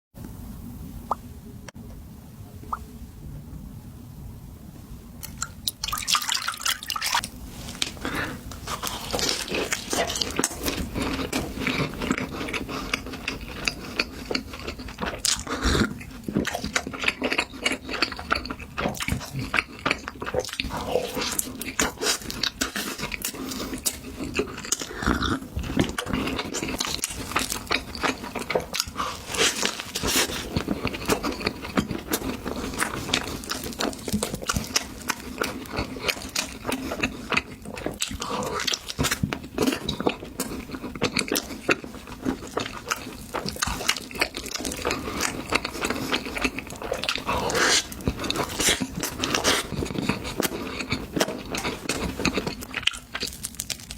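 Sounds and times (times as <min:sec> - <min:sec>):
chewing pastry: 0:05.2 - 0:53.9.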